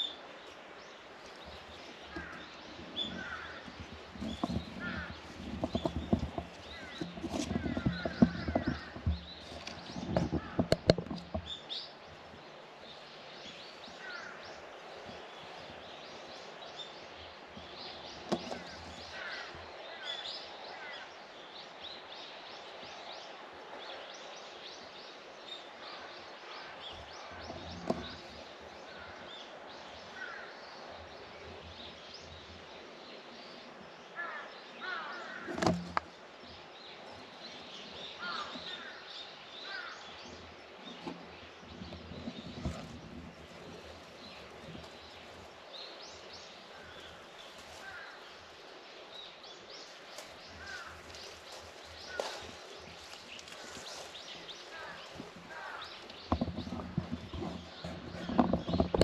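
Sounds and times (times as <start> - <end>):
steady background hiss: 0.0 - 58.2
birds chirping: 0.0 - 59.0.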